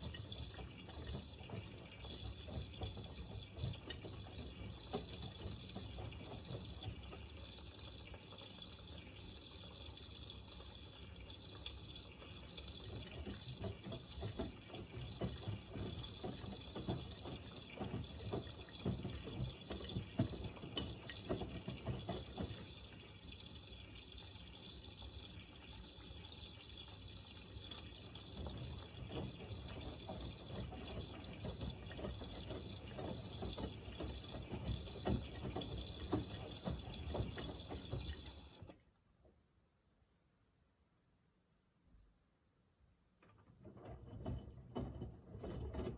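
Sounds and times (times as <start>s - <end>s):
washing machine water sloshing: 0.0s - 38.9s, 43.5s - 45.9s.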